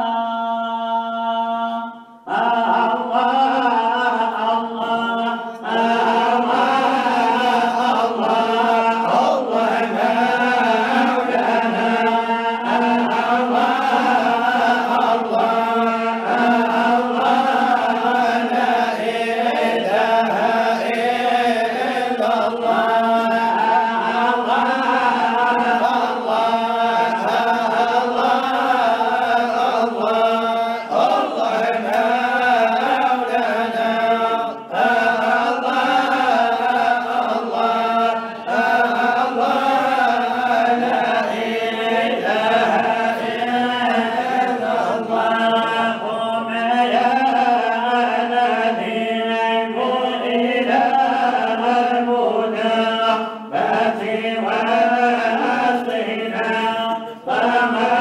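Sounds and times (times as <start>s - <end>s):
men chanting: 0.0s - 58.0s.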